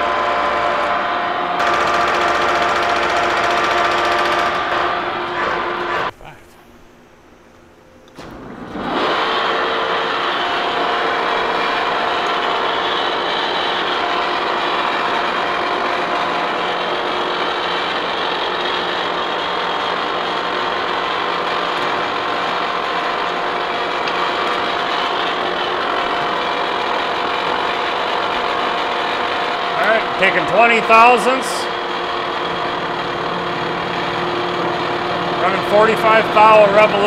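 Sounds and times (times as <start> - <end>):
boring mill whirring: 0.0 - 6.2, 8.0 - 37.0.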